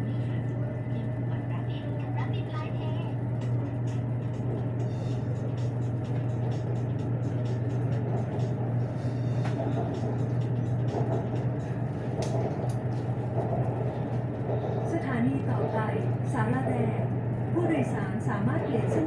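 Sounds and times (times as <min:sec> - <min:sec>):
train car running noise: 0:00.0 - 0:19.0.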